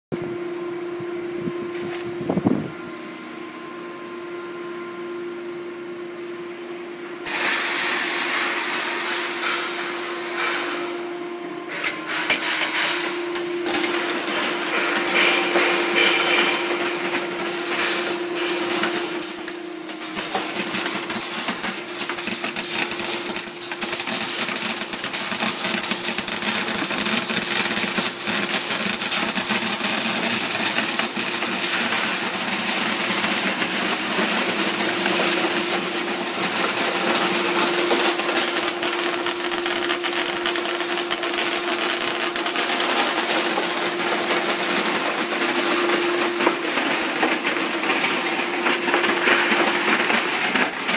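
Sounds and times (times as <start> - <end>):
machine hum: 0.2 - 50.9
stones rattling through machine: 7.3 - 10.9, 11.9 - 50.9.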